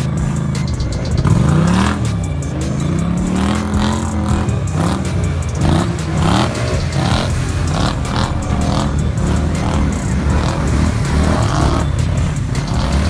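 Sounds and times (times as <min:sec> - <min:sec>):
quad engines revving: 0:00.0 - 0:13.0
water splashing and churning: 0:01.2 - 0:13.0.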